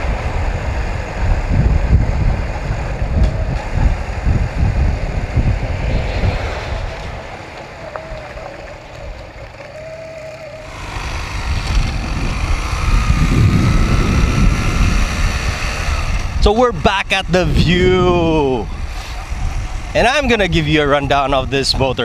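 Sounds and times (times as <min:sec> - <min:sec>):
motorcycle engine running: 0:00.0 - 0:21.4
wind noise on microphone: 0:00.0 - 0:22.0.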